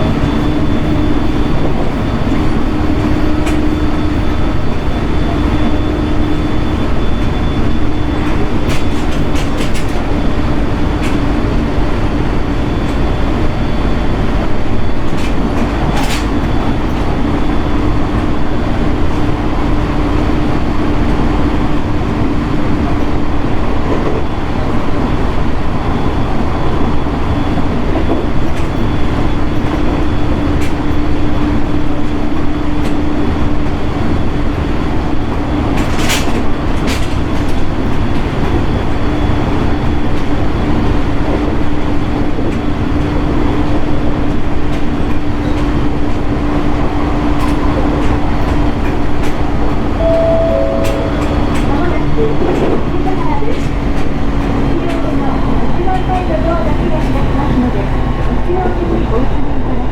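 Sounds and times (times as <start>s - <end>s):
train rumbling running noise: 0.0s - 49.5s.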